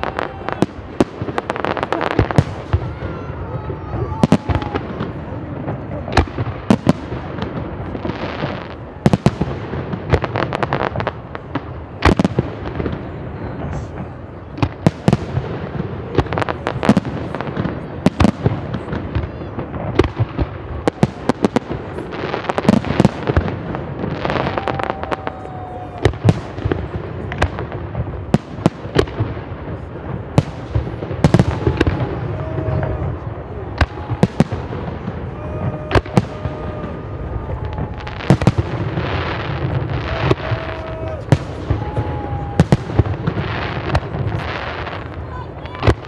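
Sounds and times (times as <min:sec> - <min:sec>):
fireworks bursting with sharp bangs: 0:00.0 - 0:46.0
fireworks crackling: 0:00.0 - 0:46.0.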